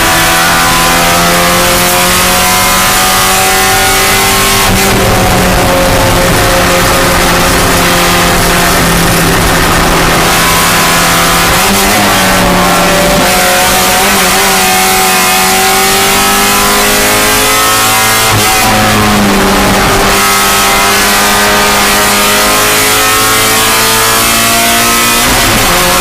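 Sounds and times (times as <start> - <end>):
race car engine accelerating: 0.0 - 26.0.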